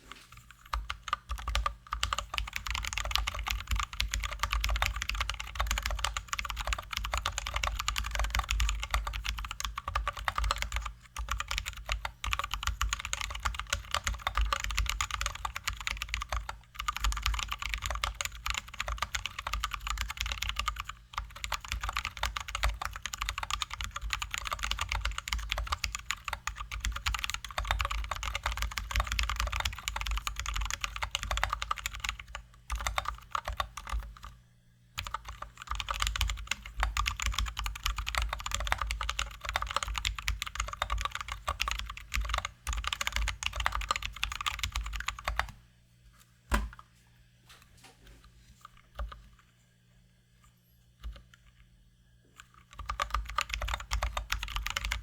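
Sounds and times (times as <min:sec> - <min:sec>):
mechanical keyboard typing: 0:00.7 - 0:34.3, 0:35.0 - 0:45.6, 0:52.5 - 0:55.0.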